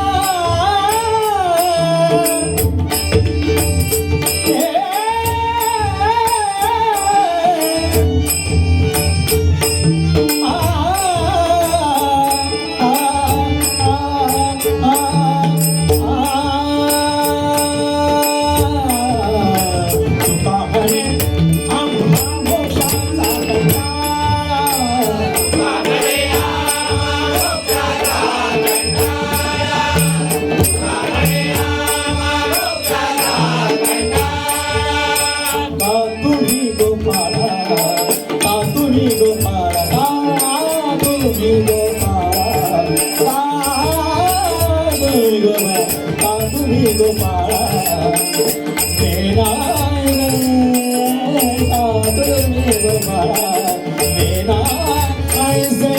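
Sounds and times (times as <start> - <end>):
small hand cymbals striking: 0.0 - 55.9
devotional singing: 10.4 - 55.9.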